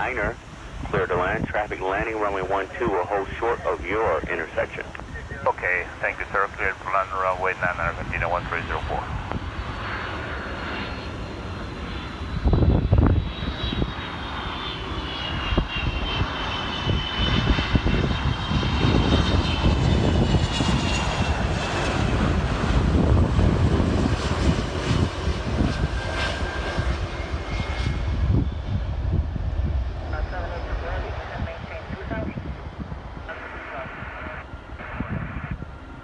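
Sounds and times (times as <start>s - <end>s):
jet airliner engines passing: 0.0s - 36.0s.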